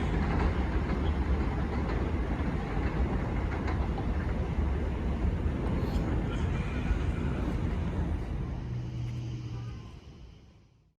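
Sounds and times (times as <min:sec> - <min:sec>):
subway train rumbling: 0:00.0 - 0:10.9.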